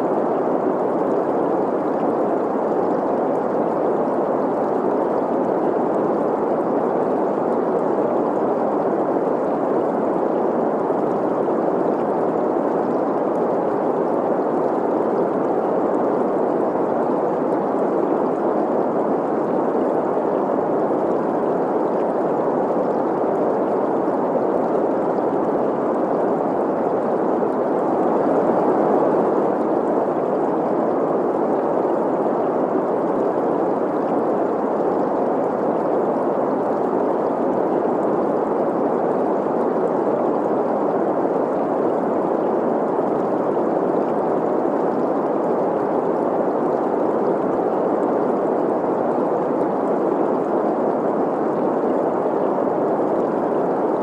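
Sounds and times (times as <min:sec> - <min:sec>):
flowing stream: 0:00.0 - 0:54.0.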